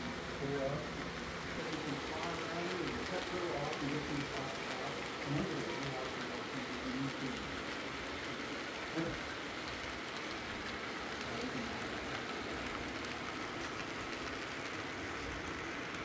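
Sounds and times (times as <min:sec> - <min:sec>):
model train wheels rattling on rail: 0:00.0 - 0:16.0.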